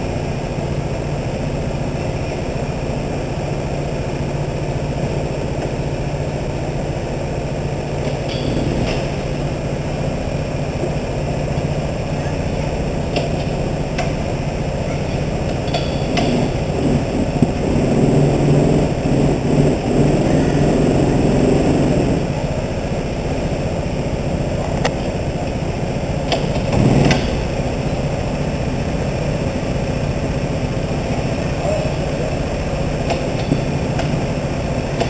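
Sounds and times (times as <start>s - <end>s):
go-kart engines idling: 0.0s - 35.0s.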